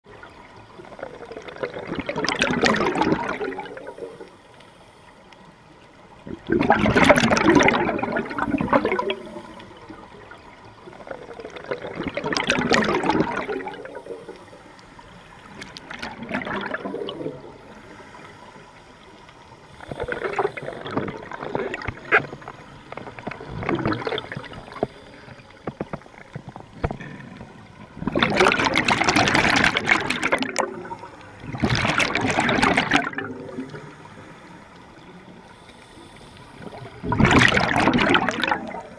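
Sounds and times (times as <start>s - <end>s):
underwater exhaust bubbles: 0.0s - 38.9s.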